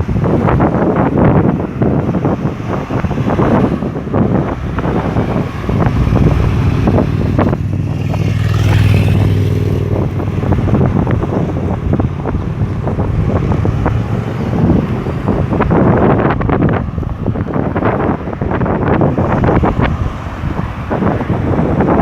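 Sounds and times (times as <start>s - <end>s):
large vehicle engine drone: 0.0s - 22.0s
road traffic passing: 0.0s - 22.0s
wind buffeting microphone: 0.0s - 22.0s.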